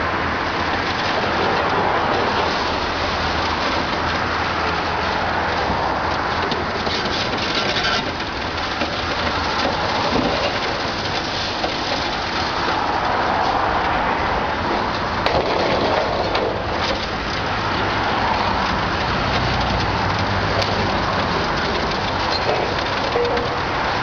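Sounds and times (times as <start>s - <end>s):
excavator engine hum: 0.0s - 24.0s
concrete rubble crunching and pattering: 0.3s - 24.0s.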